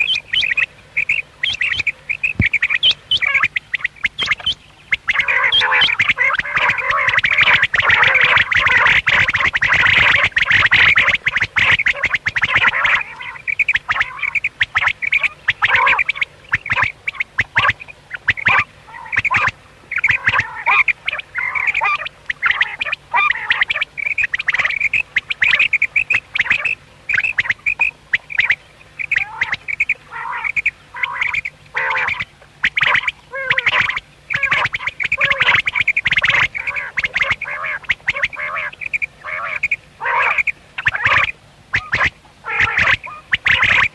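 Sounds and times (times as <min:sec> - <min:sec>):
quail calling: 0:00.0 - 0:43.9.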